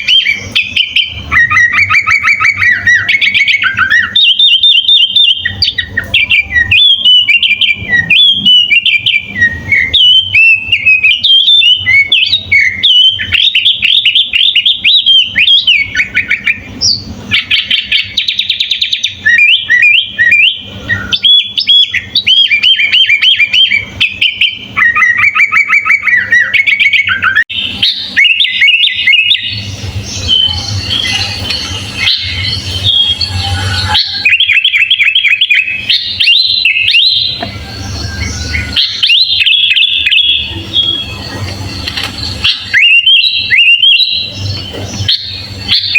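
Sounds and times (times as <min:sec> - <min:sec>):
bulbul singing whistled phrases: 0:00.0 - 0:45.9.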